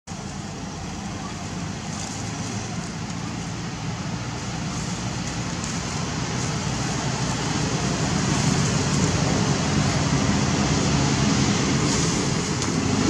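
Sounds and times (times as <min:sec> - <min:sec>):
outdoor low rumble: 0:00.1 - 0:13.0.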